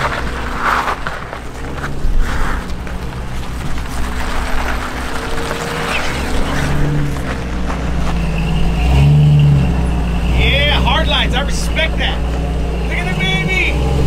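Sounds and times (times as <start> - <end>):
engine rumbling at low revs: 0.0 - 14.0.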